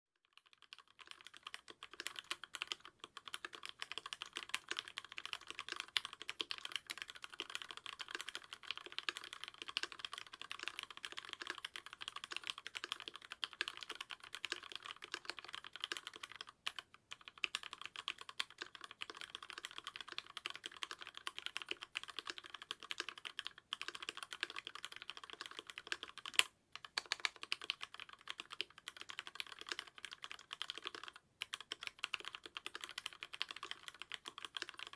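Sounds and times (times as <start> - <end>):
typing on mechanical keyboard: 0.2 - 34.9.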